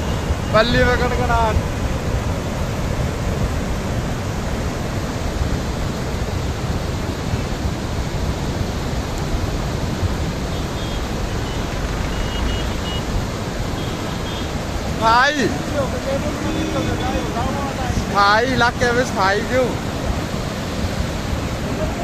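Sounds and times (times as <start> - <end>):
muddy river torrent rushing: 0.0 - 22.0.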